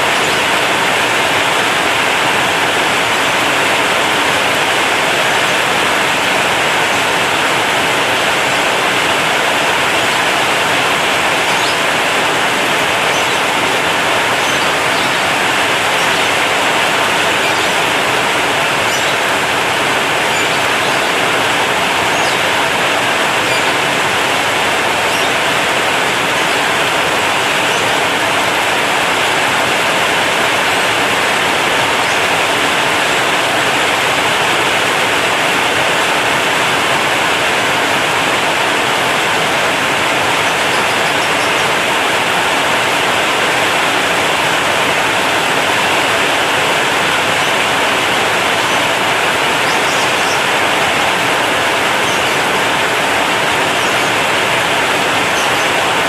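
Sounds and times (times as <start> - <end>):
heavy rain on a metal roof: 0.0 - 56.0.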